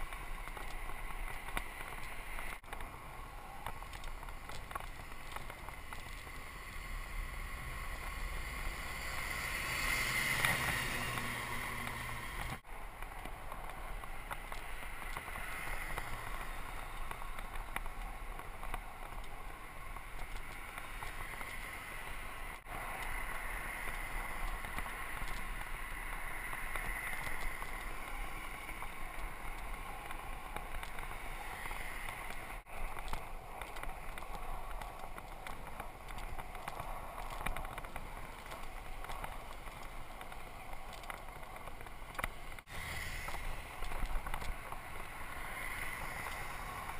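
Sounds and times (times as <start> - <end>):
bicycle tyre noise: 0.0 - 46.9.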